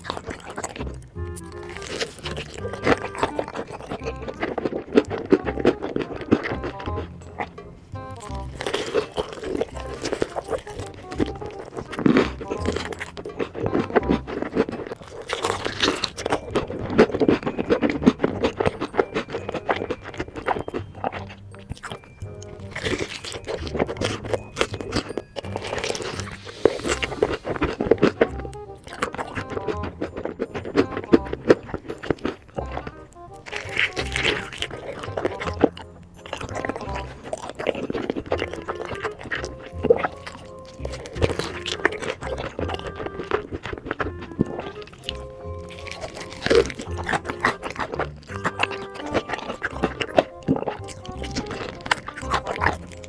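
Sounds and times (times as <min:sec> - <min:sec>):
background music held tones: 0:00.0 - 0:53.0
crunching fried chicken: 0:00.0 - 0:53.0.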